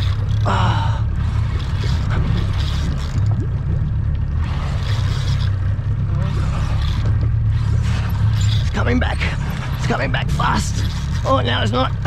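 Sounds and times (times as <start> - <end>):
boat engine droning: 0.0 - 12.0
wind and water rushing: 0.0 - 12.0.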